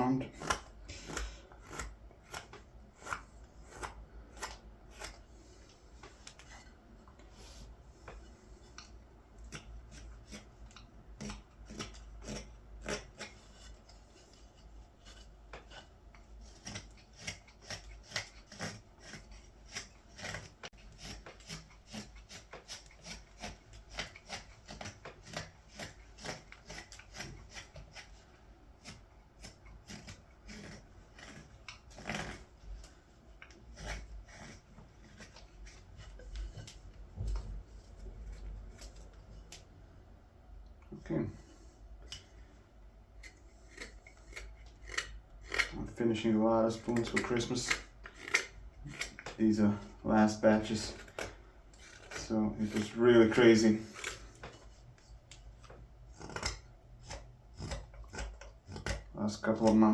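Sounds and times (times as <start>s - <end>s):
knife slicing wood shavings: 0.0s - 39.7s, 43.2s - 59.9s.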